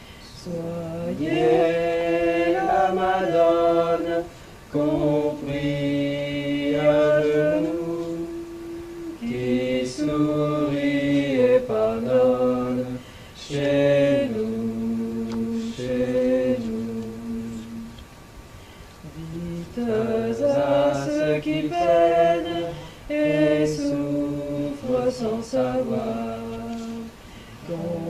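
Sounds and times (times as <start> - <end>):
voices chanting long notes: 0.4 - 18.0, 19.0 - 28.0.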